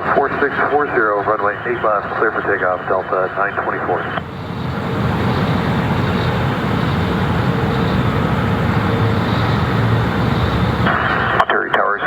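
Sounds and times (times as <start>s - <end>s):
jet engines roaring: 0.0s - 11.5s.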